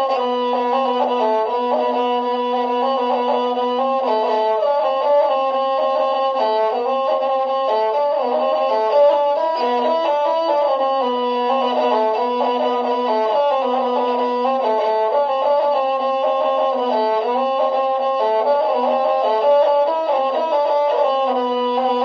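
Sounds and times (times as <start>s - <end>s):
bowed string melody: 0.0s - 22.0s.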